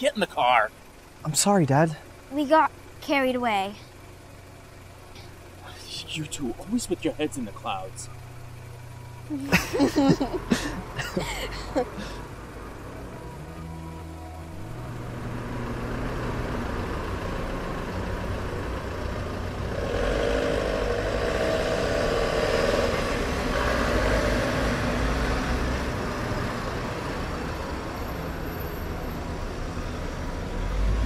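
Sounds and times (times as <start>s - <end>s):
car engine pulling away: 3.8s - 31.0s.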